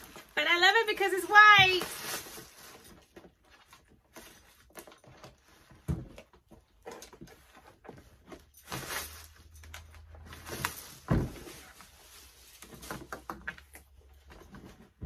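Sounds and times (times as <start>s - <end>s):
plastic packaging rustling: 0.0s - 15.0s.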